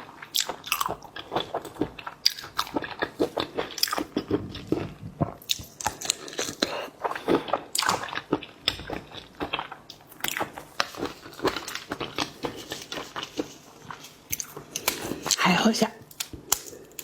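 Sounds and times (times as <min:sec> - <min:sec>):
person chewing and crunching: 0:00.0 - 0:15.4, 0:16.0 - 0:17.0.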